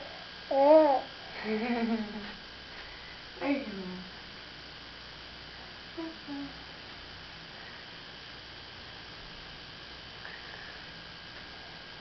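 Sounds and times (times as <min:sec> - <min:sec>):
background hiss and hum: 0:00.0 - 0:12.0.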